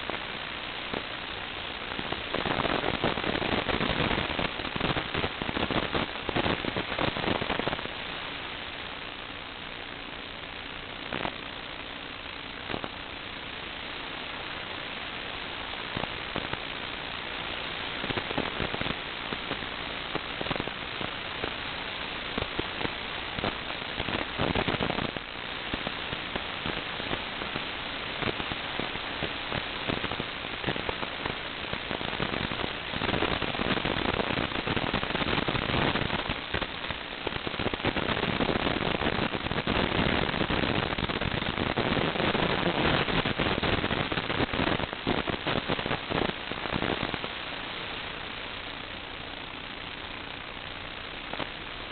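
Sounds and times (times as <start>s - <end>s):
static hiss with crackling: 0.0s - 51.9s.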